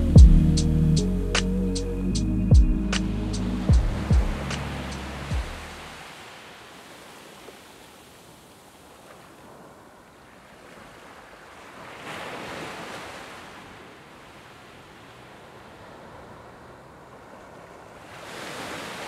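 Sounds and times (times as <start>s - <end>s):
sea surf washing onto beach: 3.6s - 19.0s.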